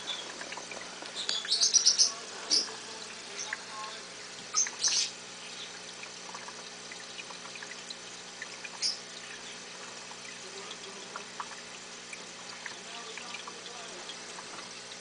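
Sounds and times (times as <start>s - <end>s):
water trickling in a fish tank: 0.0s - 15.0s.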